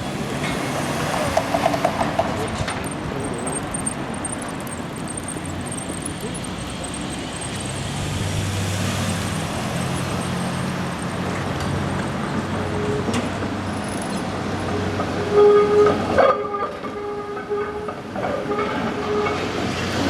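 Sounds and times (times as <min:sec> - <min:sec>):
high-pitched wheel squeal: 0:00.0 - 0:20.0
streetcar rumbling on rails: 0:00.0 - 0:20.0.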